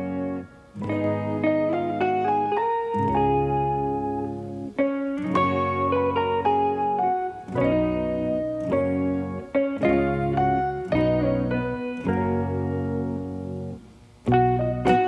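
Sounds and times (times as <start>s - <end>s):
plucked guitar tune: 0.0s - 15.0s.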